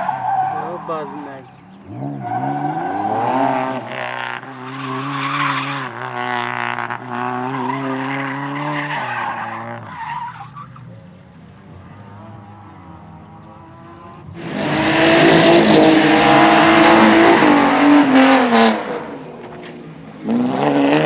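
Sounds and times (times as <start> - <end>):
race car engine at high revs: 0.0 - 10.0, 11.4 - 21.0
tyres skidding: 0.0 - 21.0.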